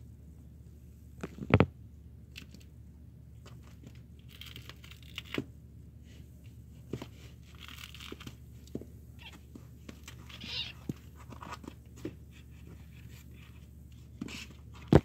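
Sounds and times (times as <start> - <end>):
steady low hum: 0.0 - 15.0
kittens scratching and rustling: 1.3 - 15.0.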